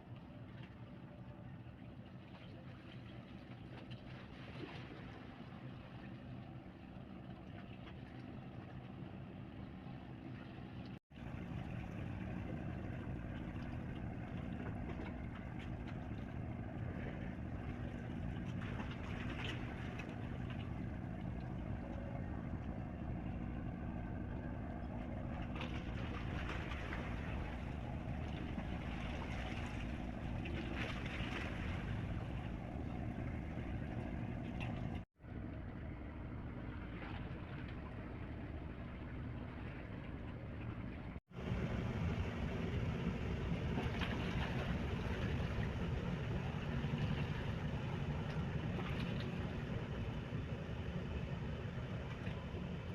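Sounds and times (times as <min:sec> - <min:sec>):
ship engines droning: 0:00.0 - 0:52.9
wind and water noise: 0:00.0 - 0:52.9.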